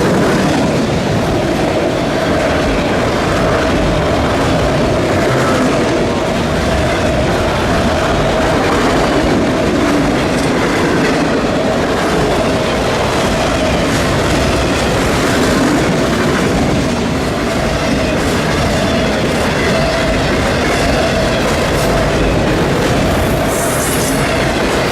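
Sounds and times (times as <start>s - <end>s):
train wheels clattering over rails: 0.0s - 24.9s.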